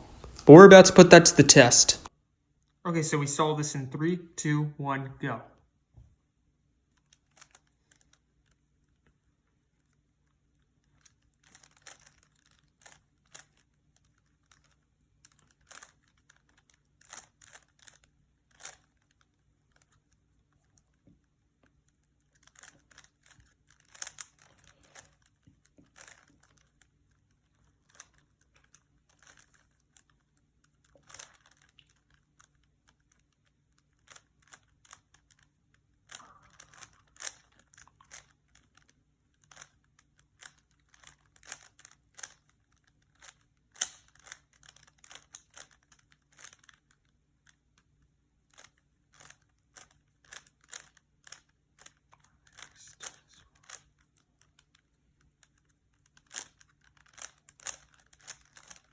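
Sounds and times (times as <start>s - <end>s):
puzzle cube clicking as turned: 6.9s - 9.0s, 10.5s - 58.9s.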